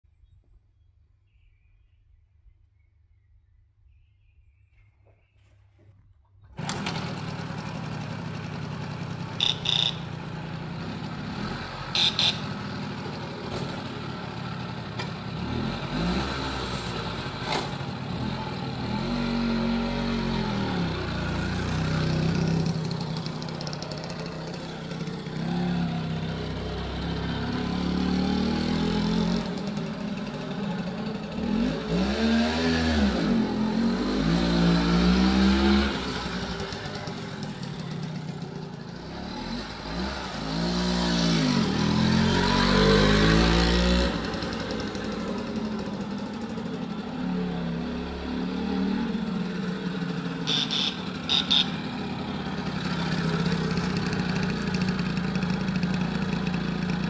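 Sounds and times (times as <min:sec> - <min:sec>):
moped engine revving: 0:06.4 - 0:57.0.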